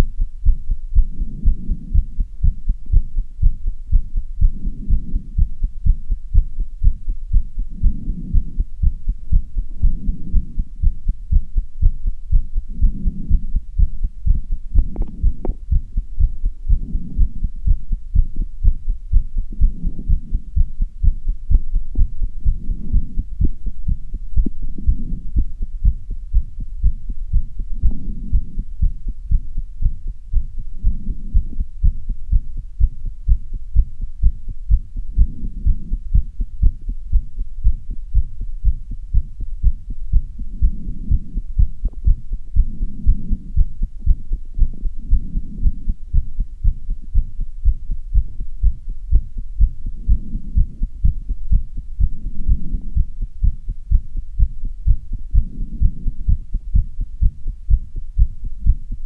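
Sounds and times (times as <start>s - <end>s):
fast heartbeat thumps: 0.0s - 59.0s.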